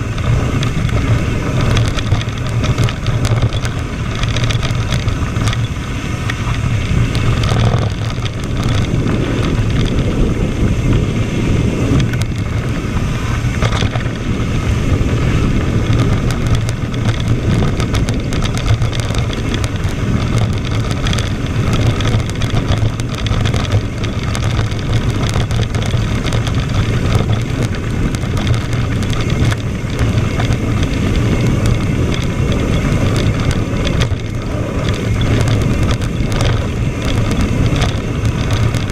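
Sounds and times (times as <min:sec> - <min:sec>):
bike rattles and clicks: 0:00.0 - 0:38.9
tyres on dirt trail: 0:00.0 - 0:38.9
wind on microphone: 0:00.0 - 0:38.9.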